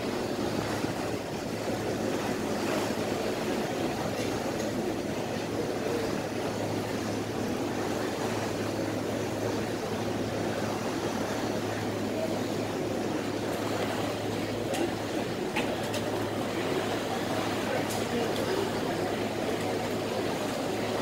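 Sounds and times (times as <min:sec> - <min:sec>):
low engine hum: 0:00.0 - 0:21.0
water noise: 0:00.0 - 0:21.0
wind: 0:00.0 - 0:21.0.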